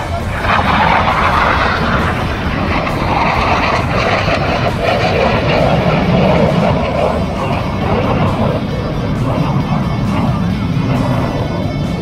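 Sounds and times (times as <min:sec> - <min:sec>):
fighter jet passing: 0:00.0 - 0:12.0.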